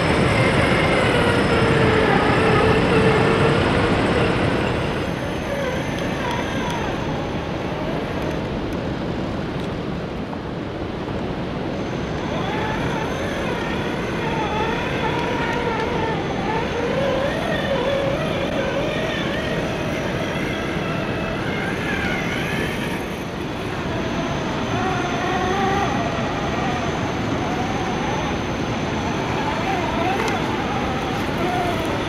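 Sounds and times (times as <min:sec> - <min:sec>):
toy truck electric motor whining: 0:00.0 - 0:08.6, 0:12.1 - 0:32.0
steady noisy background: 0:00.0 - 0:32.0.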